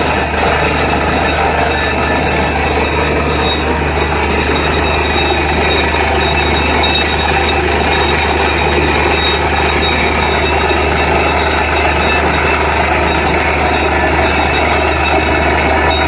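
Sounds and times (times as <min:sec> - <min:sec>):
drilling rig engine drone: 0:00.0 - 0:16.0
mechanical rattle and clatter: 0:00.0 - 0:16.0.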